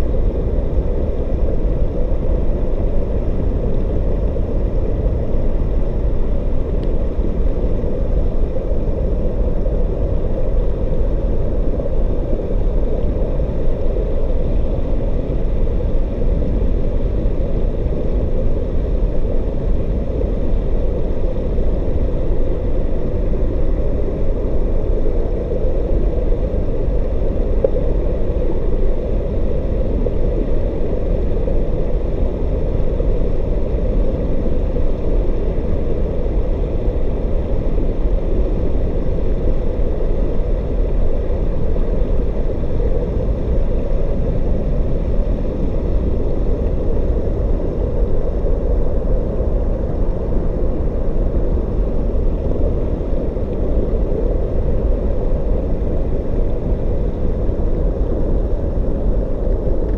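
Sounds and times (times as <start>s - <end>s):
underwater waterfall rumble: 0.1s - 59.9s.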